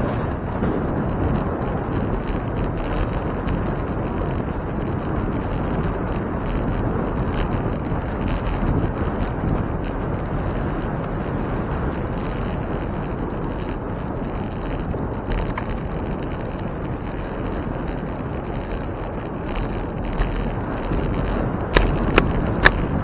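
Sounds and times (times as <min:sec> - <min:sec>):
road noise: 0:00.0 - 0:23.0
wind rumbling on microphone: 0:00.0 - 0:23.0.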